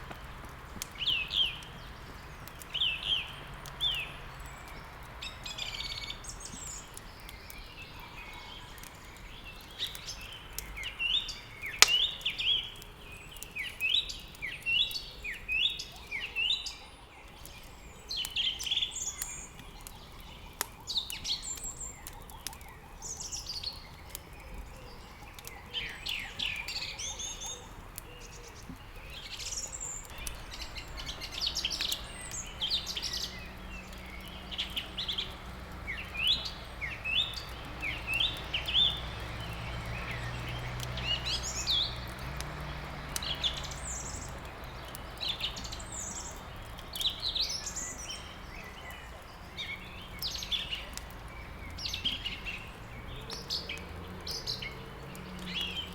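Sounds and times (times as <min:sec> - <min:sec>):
songbirds chirping: 0:00.0 - 0:55.9
wood fire crackling: 0:00.0 - 0:55.9.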